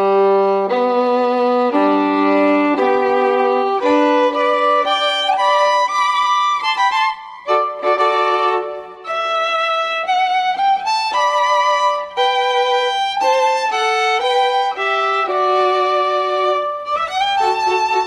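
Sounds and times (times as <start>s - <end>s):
violin melody of held notes: 0.0s - 18.0s.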